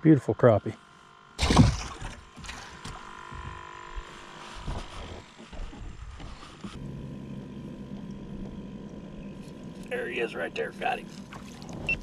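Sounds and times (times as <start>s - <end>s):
electric motor humming: 0.7s - 12.0s.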